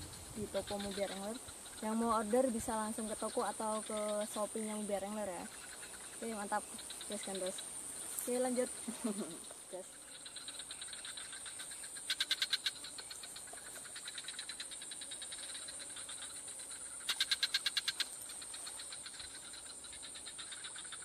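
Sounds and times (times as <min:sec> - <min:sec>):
frog calling in rapid pulses: 0:00.0 - 0:21.0
insects shrilling: 0:00.0 - 0:21.0.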